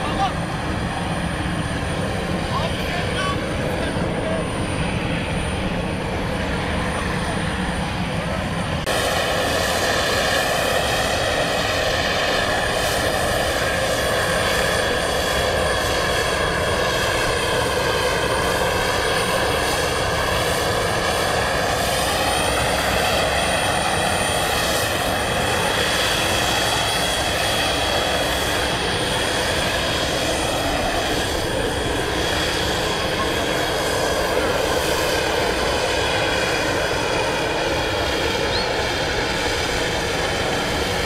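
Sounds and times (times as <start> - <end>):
turboprop engines drone: 0.0 - 41.0.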